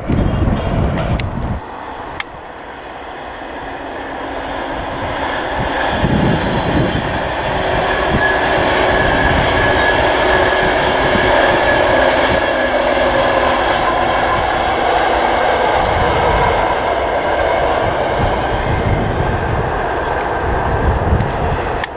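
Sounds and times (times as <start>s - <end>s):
thin steady whine: 0.0s - 21.9s
train wheels rumbling on rail: 0.0s - 21.9s.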